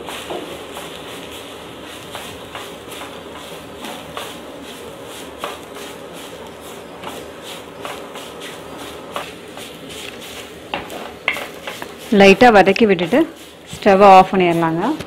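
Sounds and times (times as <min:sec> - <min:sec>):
wooden spatula scraping a clay pot: 0:00.1 - 0:15.0.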